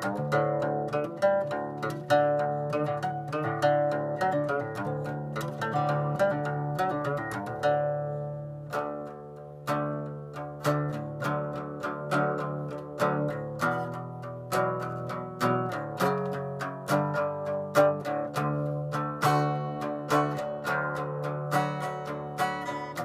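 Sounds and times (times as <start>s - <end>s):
acoustic guitar plucking: 0.0s - 23.0s.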